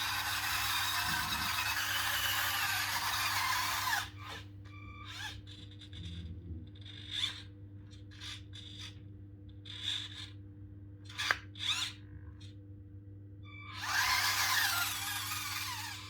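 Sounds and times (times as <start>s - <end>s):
scraping and small motor whir: 0.0s - 10.4s, 11.1s - 12.6s, 13.6s - 16.0s.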